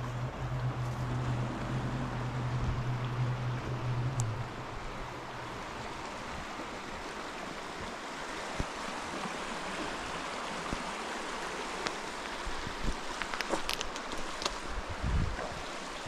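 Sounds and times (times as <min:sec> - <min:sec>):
stream water running: 0:00.0 - 0:16.0.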